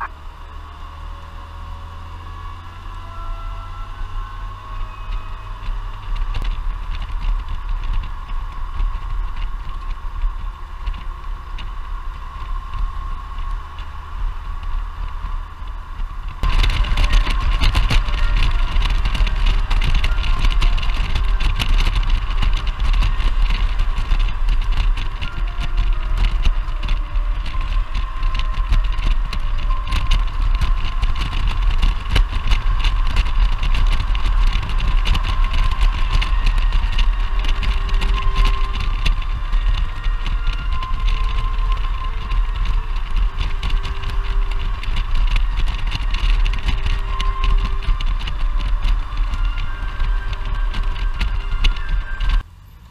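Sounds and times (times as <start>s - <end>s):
motorcycle engine: 0.0s - 52.9s
wind rushing over camera: 0.8s - 52.5s.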